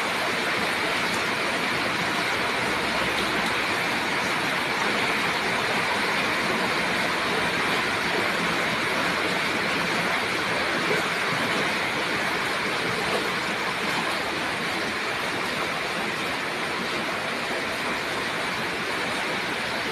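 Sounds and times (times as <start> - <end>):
heavy rain: 0.0 - 19.9
rushing floodwater: 0.0 - 19.9.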